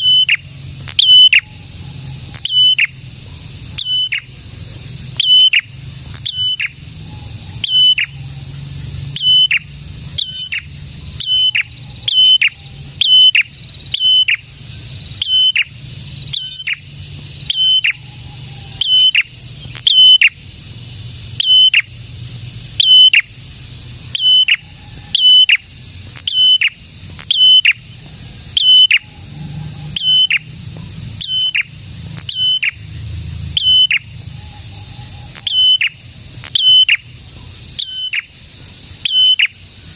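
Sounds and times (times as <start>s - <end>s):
prinia singing: 0.0s - 39.9s
steady high hiss: 0.0s - 39.9s.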